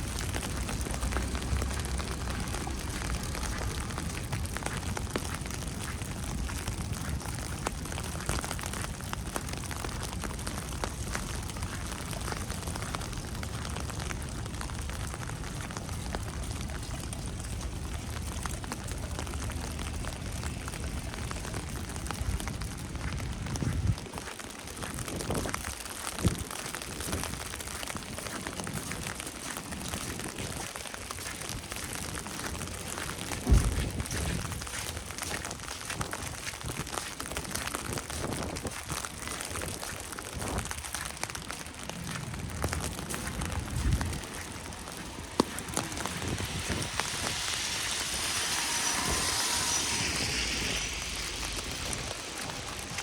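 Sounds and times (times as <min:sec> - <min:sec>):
tyre hiss on wet road: 0:00.0 - 0:23.7, 0:24.7 - 0:53.0
falling snow crackling: 0:00.0 - 0:53.0
footsteps crunching in snow: 0:00.0 - 0:53.0.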